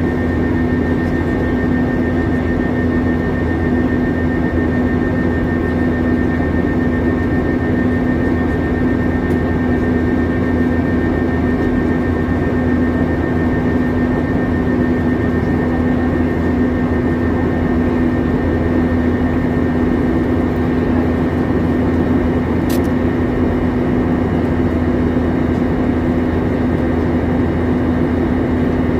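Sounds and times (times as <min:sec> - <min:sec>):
airplane cabin engine hum: 0:00.0 - 0:28.9
high engine whine: 0:00.0 - 0:28.9.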